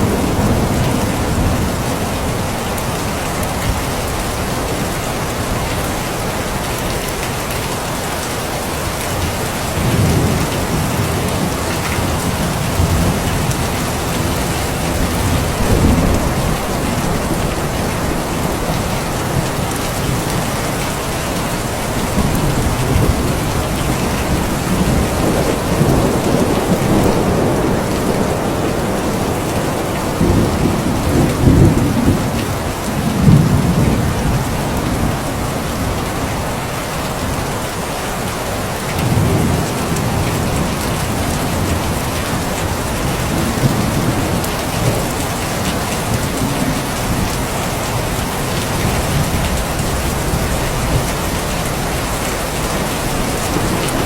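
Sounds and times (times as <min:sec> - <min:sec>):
thunder rumbling: 0:00.0 - 0:05.6, 0:09.2 - 0:36.8, 0:39.0 - 0:54.0
heavy rain falling: 0:00.0 - 0:54.0.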